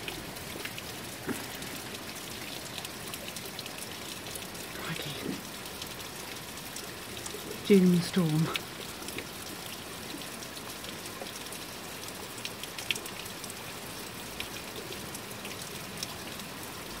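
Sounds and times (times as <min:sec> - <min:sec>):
heavy rain pouring: 0:00.0 - 0:17.0
raindrops tapping close by: 0:00.0 - 0:17.0.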